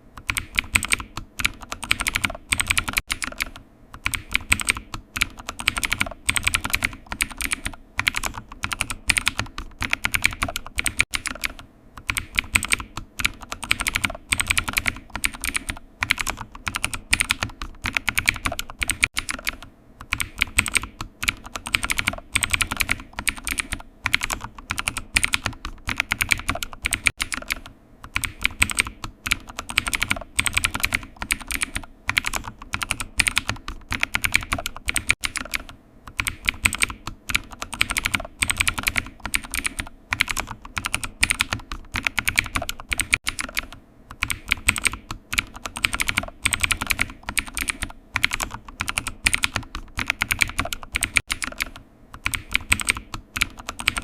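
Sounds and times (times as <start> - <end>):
keyboard typing: 0.2 - 54.0.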